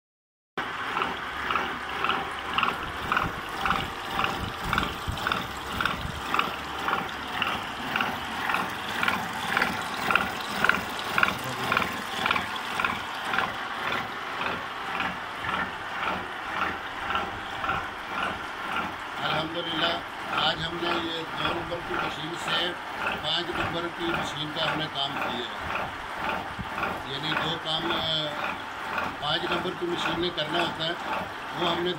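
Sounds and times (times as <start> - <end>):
milling machine cutting metal: 0.6 - 31.9.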